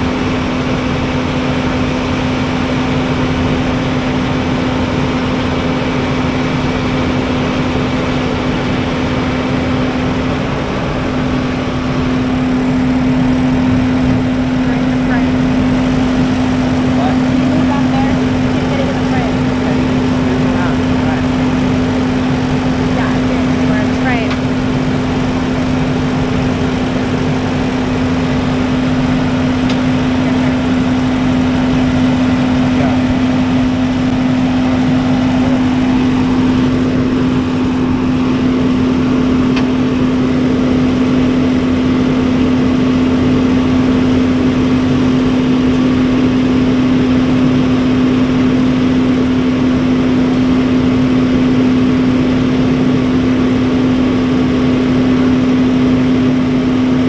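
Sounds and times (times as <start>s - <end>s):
heavy equipment engines droning: 0.0s - 57.0s.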